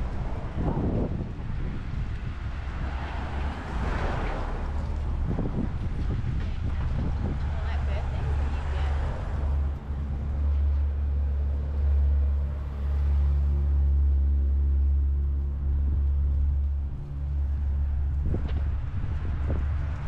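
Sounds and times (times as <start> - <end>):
car engine hum: 0.0 - 20.0
traffic rumble: 0.0 - 20.0.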